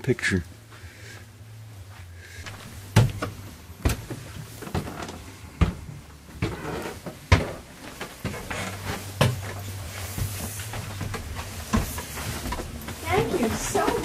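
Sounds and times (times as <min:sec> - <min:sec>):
footsteps on wooden stairs: 0:01.9 - 0:14.0.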